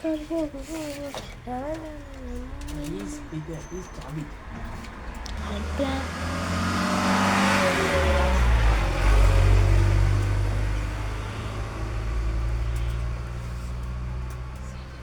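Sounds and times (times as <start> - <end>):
vehicle passing by: 1.8 - 15.0.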